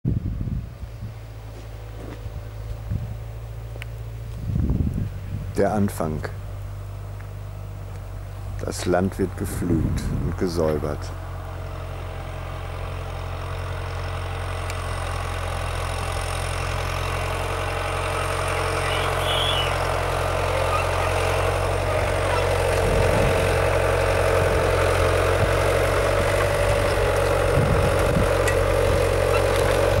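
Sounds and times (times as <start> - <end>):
tractor engine running: 0.1 - 30.0.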